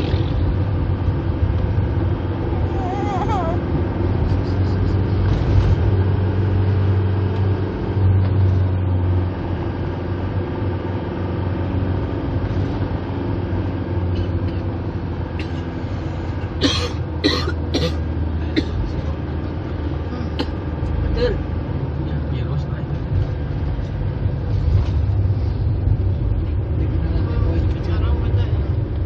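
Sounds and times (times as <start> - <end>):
car engine drone: 0.0 - 29.0
road noise: 0.0 - 29.0.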